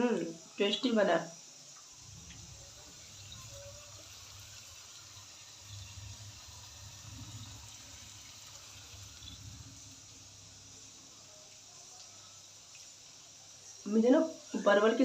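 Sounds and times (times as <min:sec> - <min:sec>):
faint steady hiss: 0:00.0 - 0:15.0
gas burner rumbling: 0:01.7 - 0:13.8.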